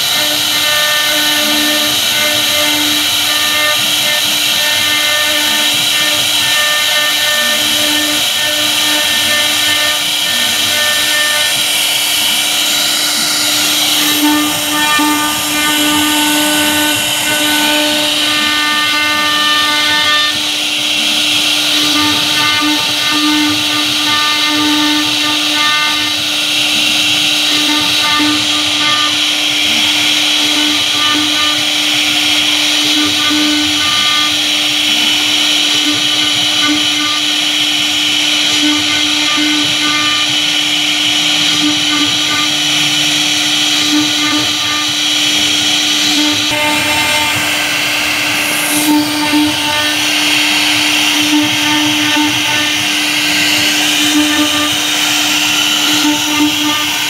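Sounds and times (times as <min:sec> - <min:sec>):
hiss of wood cutting: 0:00.0 - 0:57.0
router spindle high whine: 0:00.0 - 0:57.0.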